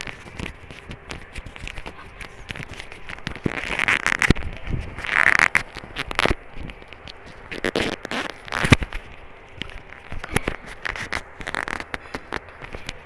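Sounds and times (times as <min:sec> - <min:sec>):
fabric and cable rustling: 0:00.0 - 0:13.0.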